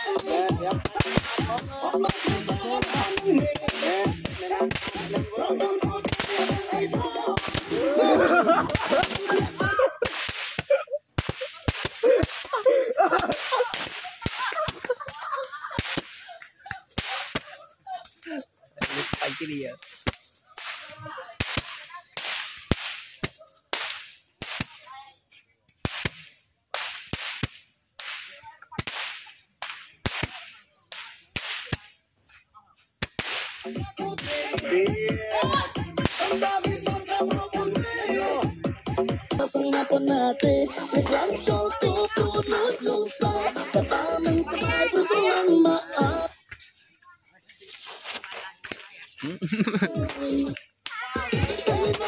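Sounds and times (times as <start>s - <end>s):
fireworks cracking: 0.0s - 32.0s, 33.0s - 46.4s, 47.6s - 52.0s.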